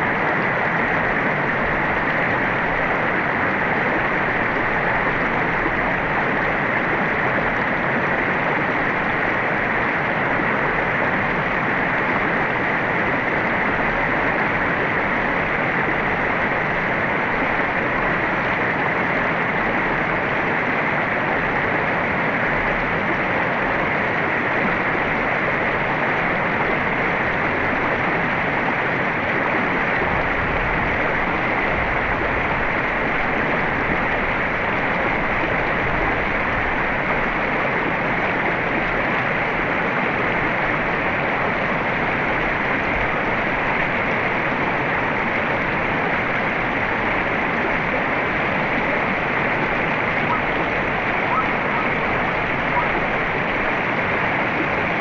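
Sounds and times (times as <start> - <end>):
river rushing over rocks: 0.0 - 55.0.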